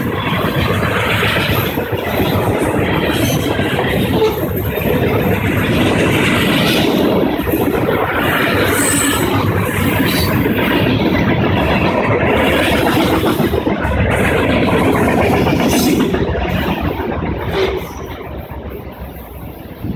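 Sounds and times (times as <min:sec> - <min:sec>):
freight train rolling past: 0:00.0 - 0:19.9
steel wheels clattering on rail: 0:00.0 - 0:19.9.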